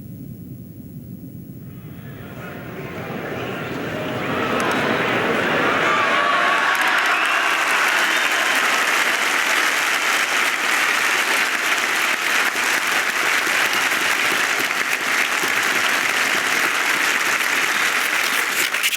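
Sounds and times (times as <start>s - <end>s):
crowd applauding: 2.1s - 18.9s.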